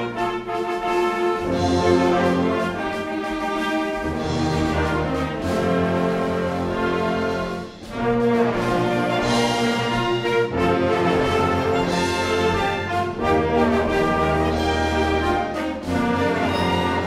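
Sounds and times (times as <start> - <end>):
wind band playing: 0.0 - 17.0.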